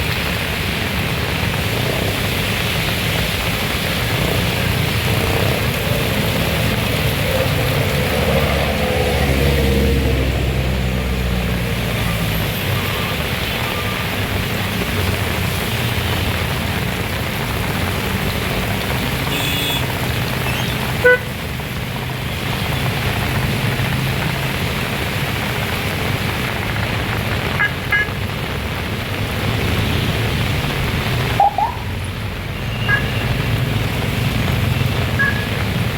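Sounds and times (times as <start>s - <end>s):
heavy rain hiss: 0.0s - 35.9s.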